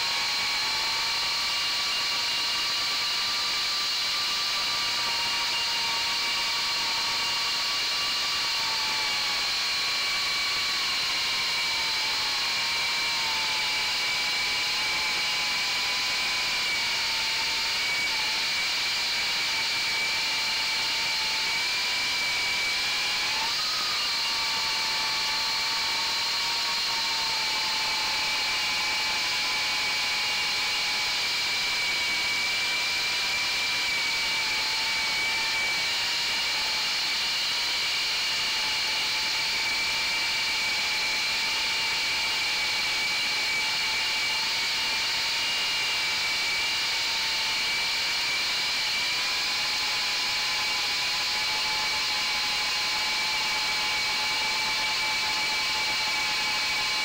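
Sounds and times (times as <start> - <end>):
quadcopter motors whining: 0.0 - 57.0.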